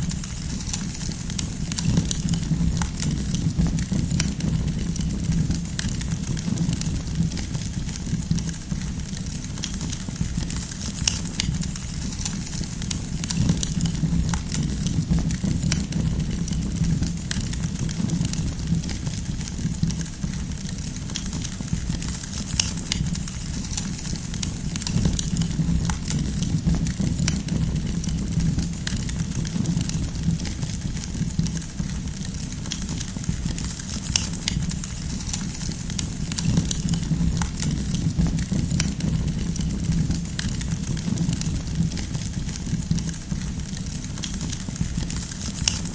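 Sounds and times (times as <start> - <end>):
campfire flames rumbling: 0.0 - 45.9
firewood crackling and popping: 0.0 - 45.9.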